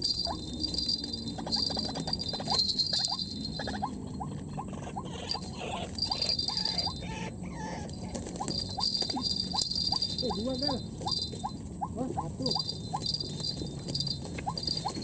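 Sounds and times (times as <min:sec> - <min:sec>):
high drone of insects: 0:00.0 - 0:15.0.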